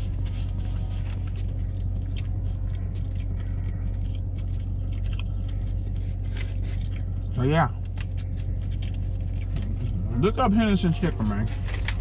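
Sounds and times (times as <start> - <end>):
low hum inside car: 0.0 - 12.0
person chewing: 0.0 - 12.0.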